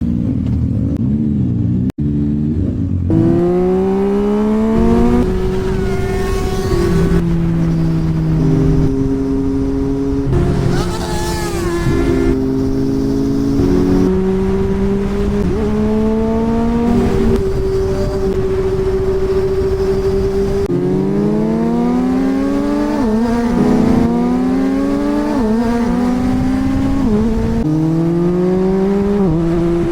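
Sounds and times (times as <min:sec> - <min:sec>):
motorcycle engine accelerating: 0:00.0 - 0:29.9.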